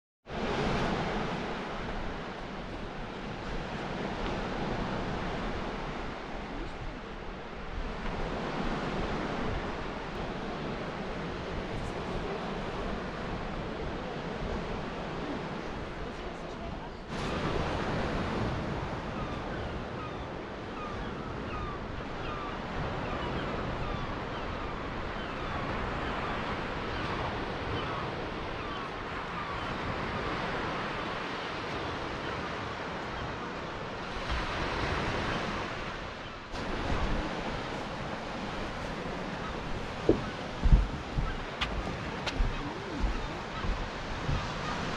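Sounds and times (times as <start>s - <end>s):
surf washing on beach: 0.3s - 44.9s
wind buffeting microphone: 0.3s - 44.9s.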